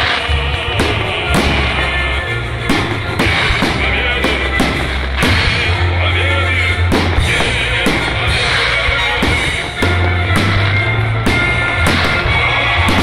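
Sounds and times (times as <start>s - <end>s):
fireworks bangs: 0.0s - 13.0s
music with heavy bass line: 0.0s - 13.0s.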